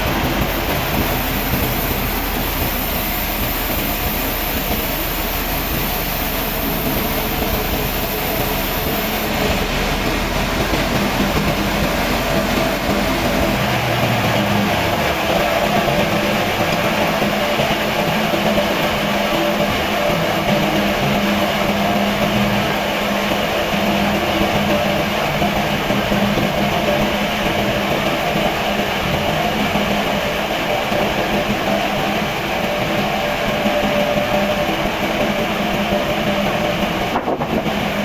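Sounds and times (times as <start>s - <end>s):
machine droning: 0.0s - 38.0s.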